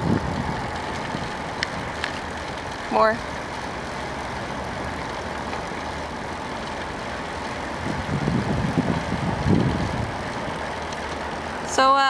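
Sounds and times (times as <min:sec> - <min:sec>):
vehicle engine and road hum: 0:00.0 - 0:12.0.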